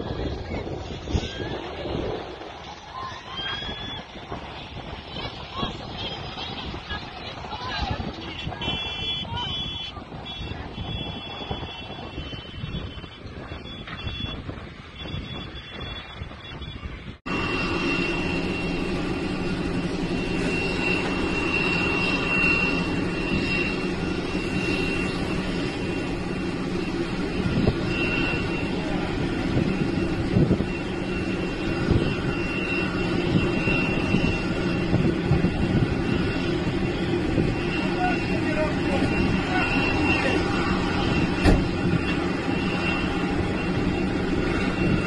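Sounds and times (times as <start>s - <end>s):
high engine whine: 0.0s - 45.0s
jet engine rumble: 0.0s - 45.0s.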